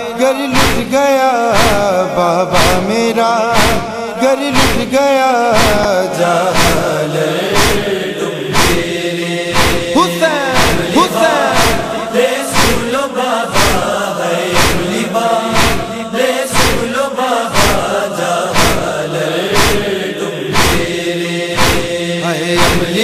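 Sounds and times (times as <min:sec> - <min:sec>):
men chanting in chorus: 0:00.0 - 0:23.0
people beating chests in unison: 0:00.5 - 0:23.0.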